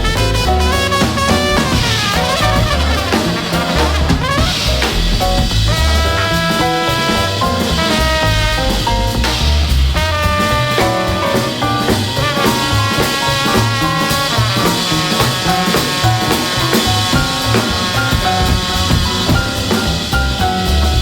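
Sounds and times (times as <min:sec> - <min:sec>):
upbeat jazz with brass and drums: 0:00.0 - 0:21.0.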